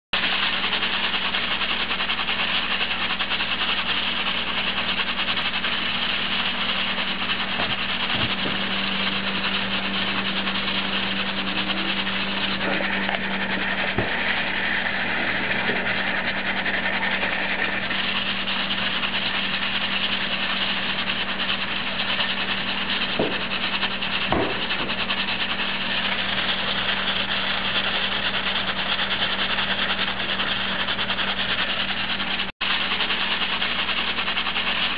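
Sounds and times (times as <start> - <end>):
pressure cooker steam hissing: 0.1 - 34.9
steady low hum: 0.2 - 34.9.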